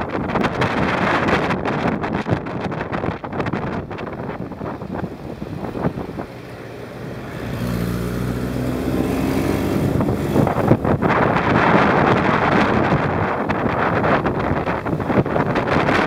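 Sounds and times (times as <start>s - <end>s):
engine hum: 0.0s - 16.0s
wind buffeting microphone: 0.0s - 16.0s.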